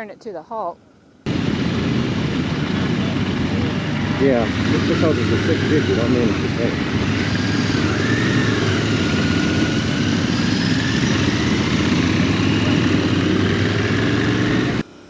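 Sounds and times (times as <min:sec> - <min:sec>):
motorcycle engine running: 0:01.2 - 0:15.0.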